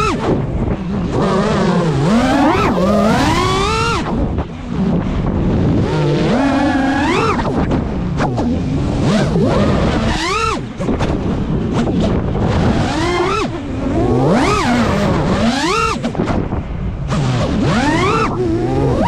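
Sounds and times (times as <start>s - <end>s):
drone motors whining: 0.0s - 19.0s
wind rumble: 0.0s - 19.0s.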